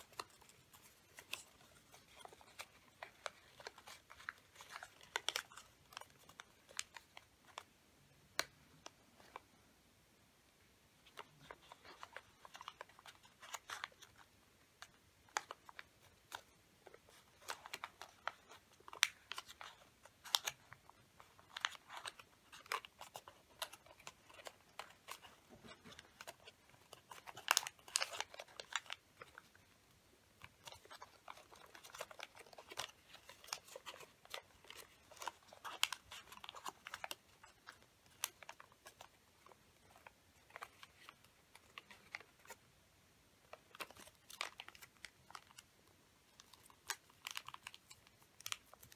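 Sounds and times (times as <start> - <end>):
paper crinkling while folding: 0.0 - 7.7, 11.0 - 42.7, 43.4 - 48.9.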